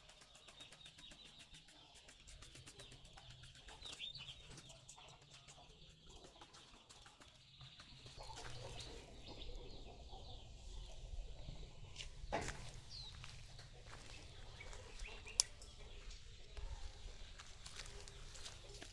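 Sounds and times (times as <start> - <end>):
birds chirping: 0.0 - 18.9.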